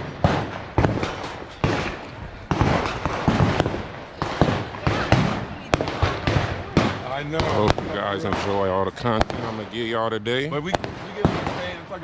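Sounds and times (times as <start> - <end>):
gunshots with echo: 0.0 - 9.8, 10.6 - 12.0.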